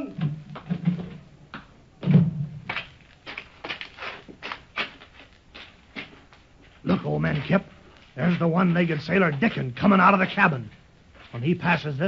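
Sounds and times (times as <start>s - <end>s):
footsteps walking away: 0.2s - 11.6s.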